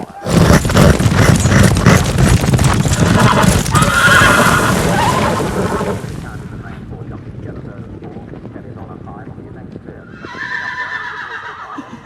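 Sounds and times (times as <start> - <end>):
horse hooves galloping: 0.0 - 12.0.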